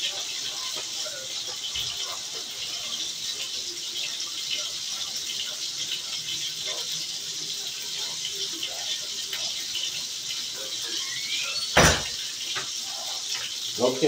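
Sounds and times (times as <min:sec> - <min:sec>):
kitchen work clatter: 0:00.0 - 0:14.0.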